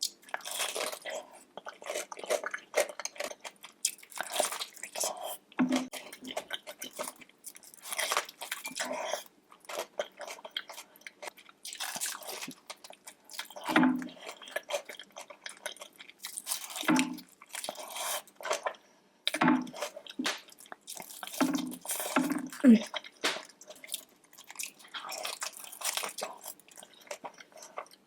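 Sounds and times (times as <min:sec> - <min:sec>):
wet chewing and crunching: 0:00.0 - 0:28.0.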